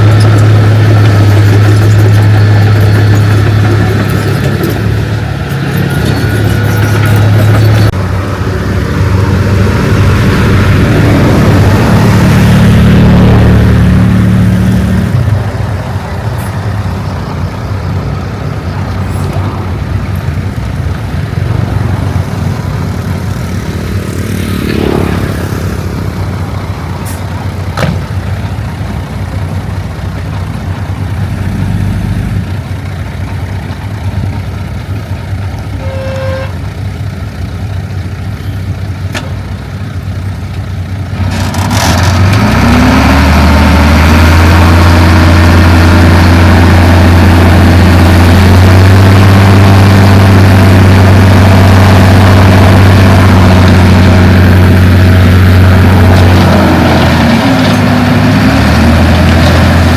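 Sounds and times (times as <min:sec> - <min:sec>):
heavy diesel engine revving: 0:00.0 - 0:36.2, 0:39.6 - 0:59.9.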